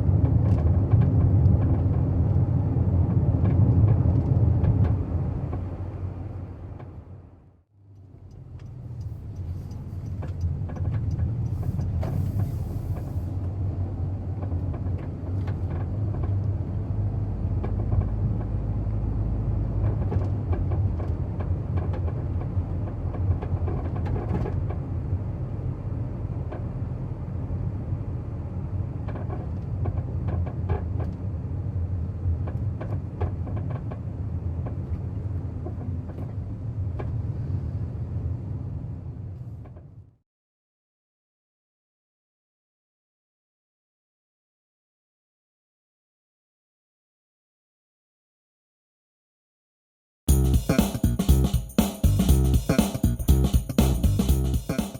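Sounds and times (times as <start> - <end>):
road and engine rumble: 0.0 - 40.2, 50.3 - 54.9.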